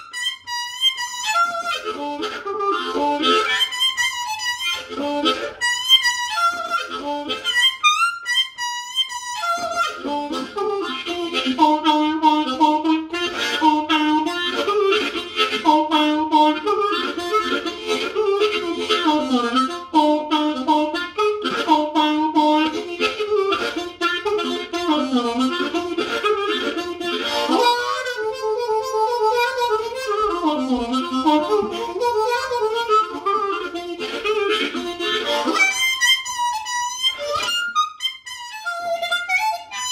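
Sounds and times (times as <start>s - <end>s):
blues harmonica playing: 0.0s - 39.9s.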